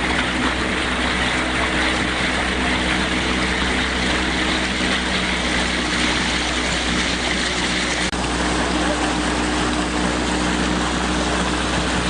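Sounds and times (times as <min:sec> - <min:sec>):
low engine-like hum: 0:00.0 - 0:12.0
water splashing against rocks: 0:00.0 - 0:12.0.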